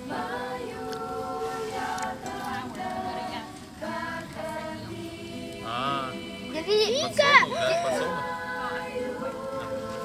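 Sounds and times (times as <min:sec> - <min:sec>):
group of voices singing: 0:00.0 - 0:10.0.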